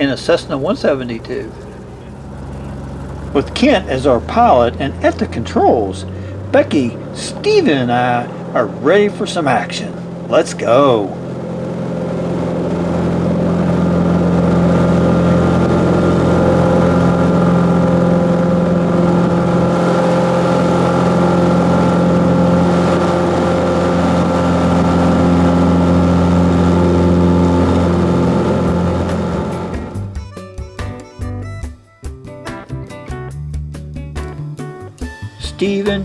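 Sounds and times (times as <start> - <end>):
propeller plane engine drone: 0.0 - 30.2.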